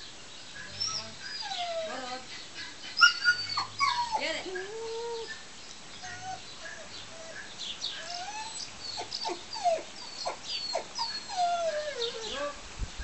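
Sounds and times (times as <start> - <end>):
dog whining: 0.7 - 2.3, 2.9 - 5.4, 6.0 - 12.6.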